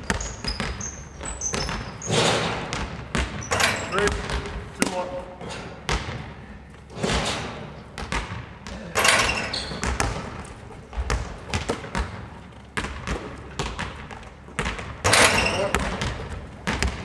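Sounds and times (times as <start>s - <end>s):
basketballs bouncing on wooden court: 0.0s - 17.0s.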